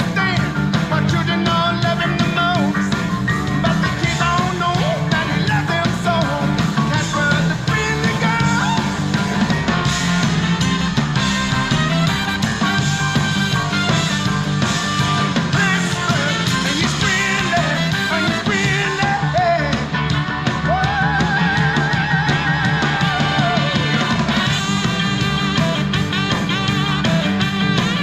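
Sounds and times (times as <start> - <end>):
rock song through speaker: 0.0 - 28.0.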